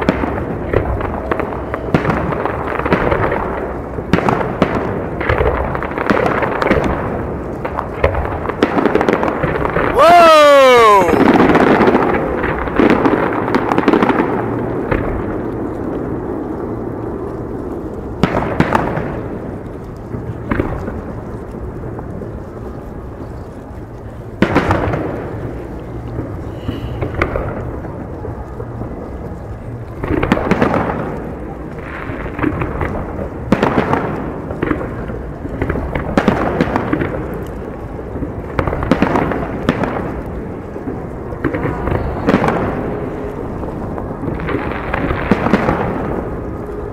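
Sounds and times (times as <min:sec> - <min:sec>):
fireworks bangs: 0:00.0 - 0:16.1, 0:18.2 - 0:19.5, 0:24.4 - 0:28.4, 0:30.0 - 0:46.9.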